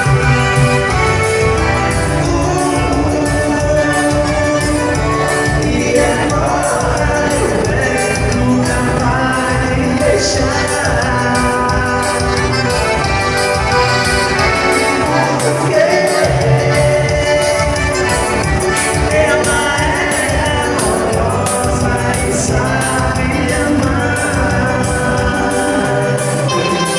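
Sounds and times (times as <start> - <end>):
live band dance music: 0.0 - 26.9.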